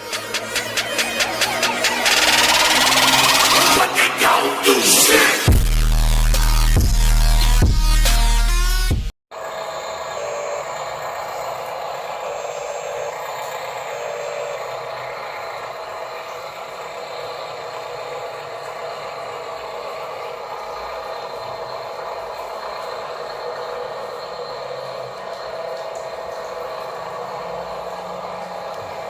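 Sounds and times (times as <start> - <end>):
toy truck motors whining: 0.0 - 7.6, 9.4 - 29.0.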